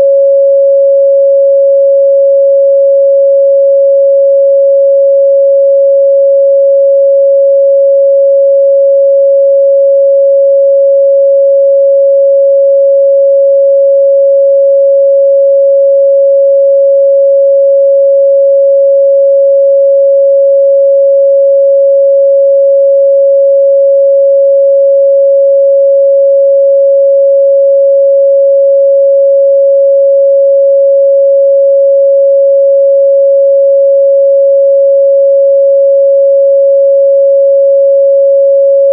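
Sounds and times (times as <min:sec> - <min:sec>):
sine wave test tone: 0:00.0 - 0:38.9.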